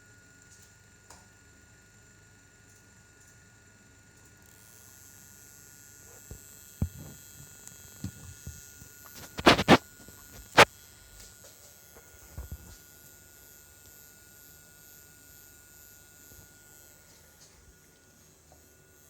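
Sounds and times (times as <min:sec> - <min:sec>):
small cooling fan whining: 0:00.0 - 0:19.0.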